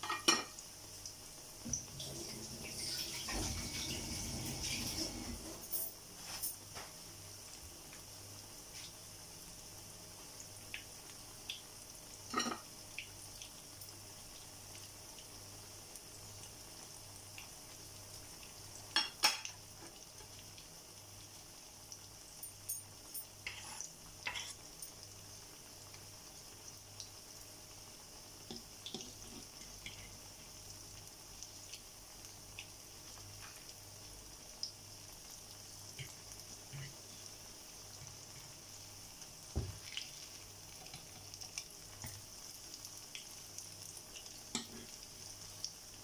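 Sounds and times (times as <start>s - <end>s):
fritters sizzling in oil: 0.0s - 46.0s.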